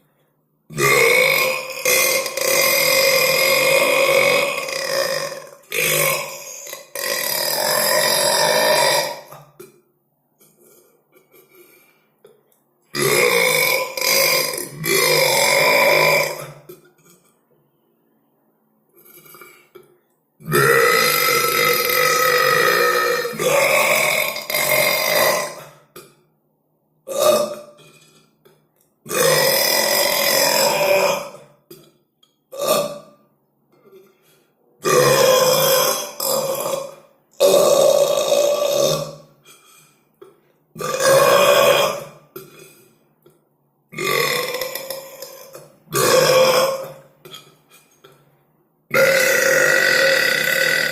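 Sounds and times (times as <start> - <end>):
long loud belches: 0.7 - 9.8, 12.9 - 17.3, 19.0 - 26.3, 27.0 - 34.2, 34.8 - 48.2, 48.9 - 50.9.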